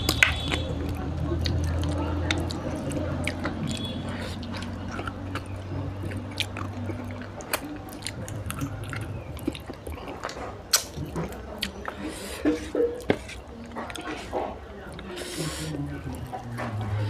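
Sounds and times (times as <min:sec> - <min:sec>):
wet chewing with mouth clicks: 0:00.0 - 0:17.0.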